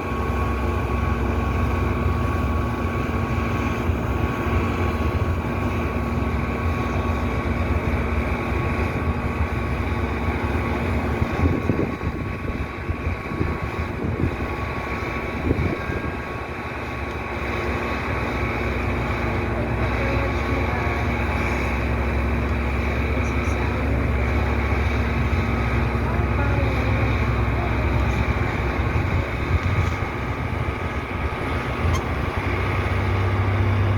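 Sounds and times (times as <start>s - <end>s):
truck engine rumbling: 0.0s - 33.9s.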